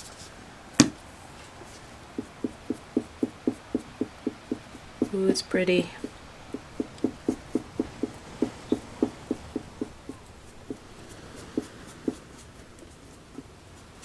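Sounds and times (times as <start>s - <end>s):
paint dripping onto canvas: 2.1s - 13.5s.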